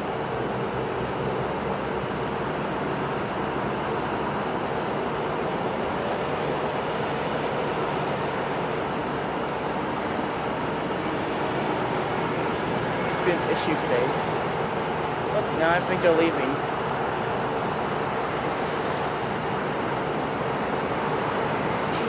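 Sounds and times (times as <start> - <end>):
diesel locomotives idling: 0.0 - 22.0.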